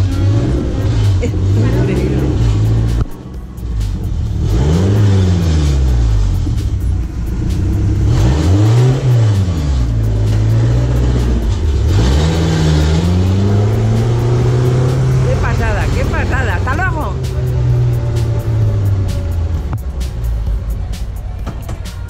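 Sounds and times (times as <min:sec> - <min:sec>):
trike engine revving past: 0:00.0 - 0:20.7.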